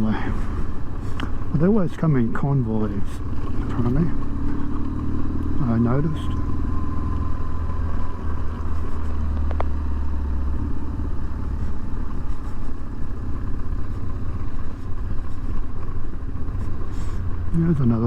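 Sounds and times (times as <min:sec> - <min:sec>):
motorcycle engine running: 0:00.0 - 0:18.0
road noise: 0:00.0 - 0:18.0.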